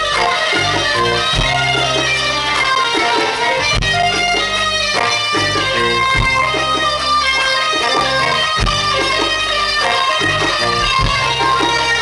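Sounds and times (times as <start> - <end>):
bass guitar: 0.0 - 12.0
drum kit: 0.0 - 12.0
electric guitar picking melody: 0.0 - 12.0.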